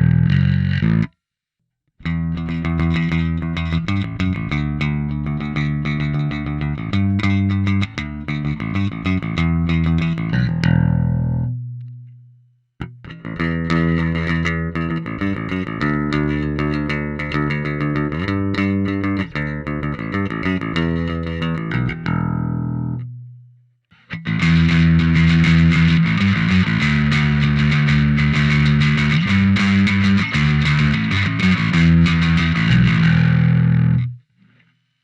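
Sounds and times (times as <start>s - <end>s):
overdriven electric bass notes: 0.0s - 1.2s, 2.0s - 34.3s.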